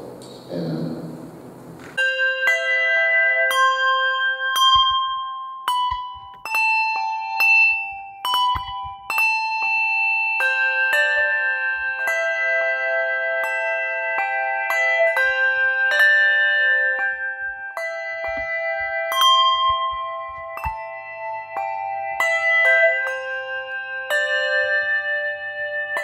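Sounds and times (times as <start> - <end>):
handbells playing a tune: 2.0 - 26.0.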